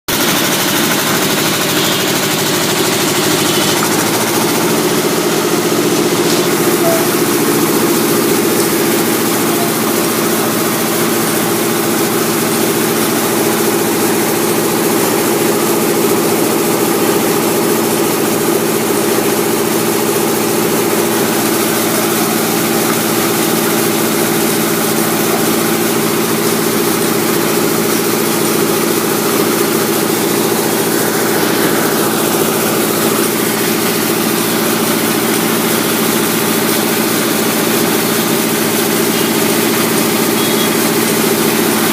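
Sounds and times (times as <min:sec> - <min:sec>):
concrete mixer engine running: 0:00.1 - 0:41.9.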